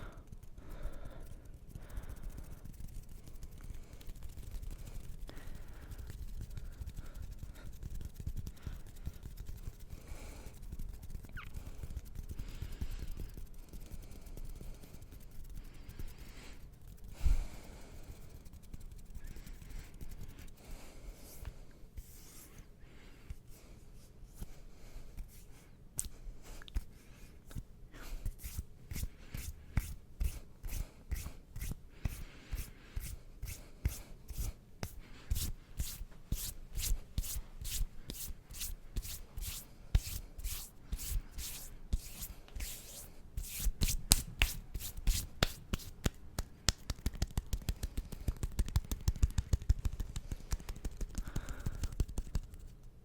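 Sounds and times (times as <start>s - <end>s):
hands rubbing together: 0.2s - 20.6s, 27.5s - 52.9s.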